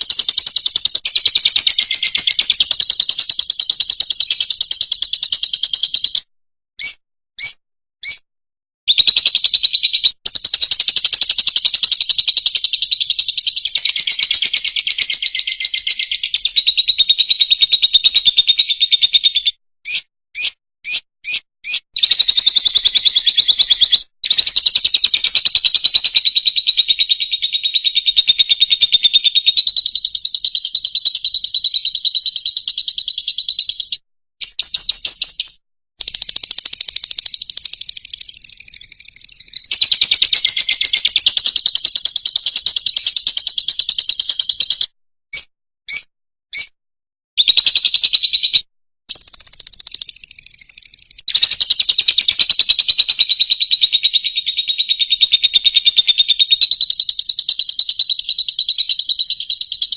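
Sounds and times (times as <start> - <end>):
bird chirps: 0.0 - 8.2, 8.9 - 46.8, 47.4 - 59.9.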